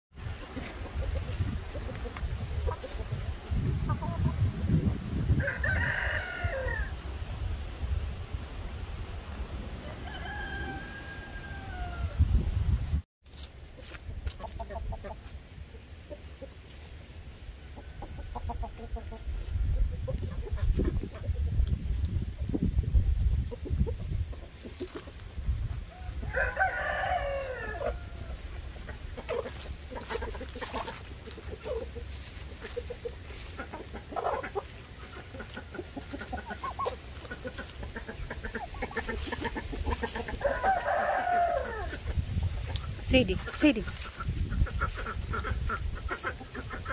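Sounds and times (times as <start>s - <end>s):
chickens clucking: 0.2s - 7.0s, 13.7s - 46.9s.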